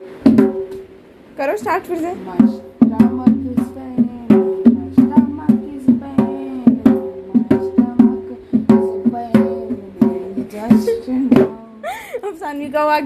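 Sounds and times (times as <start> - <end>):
hand drum played: 0.0 - 0.9, 1.6 - 11.8.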